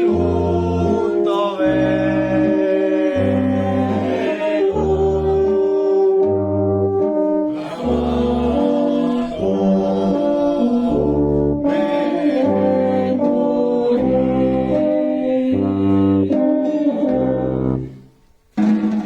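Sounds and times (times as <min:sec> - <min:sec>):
wind band playing slow chords: 0:00.0 - 0:18.0.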